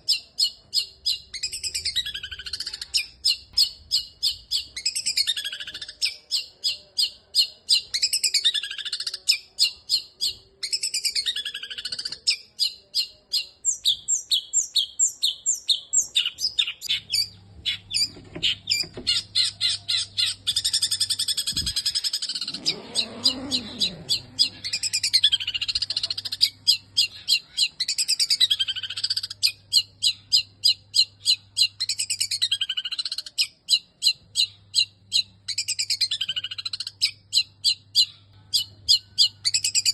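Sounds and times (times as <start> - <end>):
bird singing sharp varied chirps: 0.0 - 39.9.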